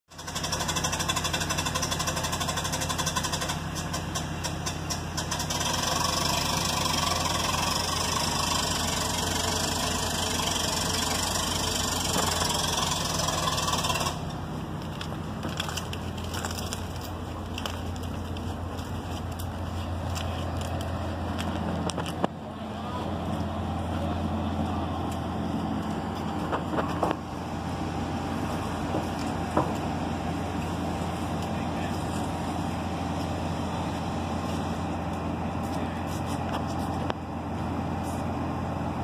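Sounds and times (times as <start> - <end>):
engine low hum: 0.1 - 39.0.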